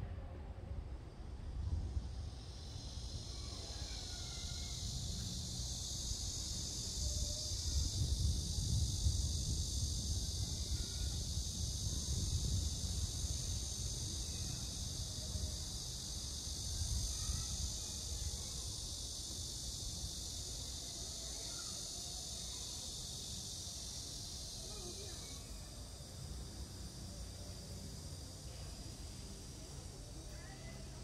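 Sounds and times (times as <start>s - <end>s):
insects chirping: 1.5s - 31.0s.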